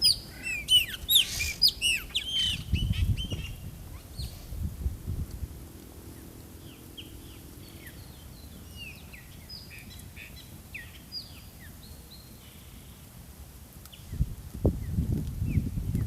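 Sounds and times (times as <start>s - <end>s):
small birds chirping: 0.0s - 4.6s, 6.1s - 13.1s, 13.8s - 16.0s.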